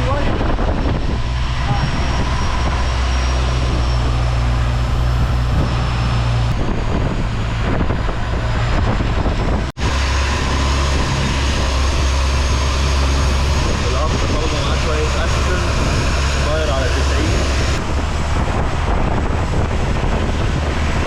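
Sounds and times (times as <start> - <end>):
boat engine humming: 0.0 - 20.2.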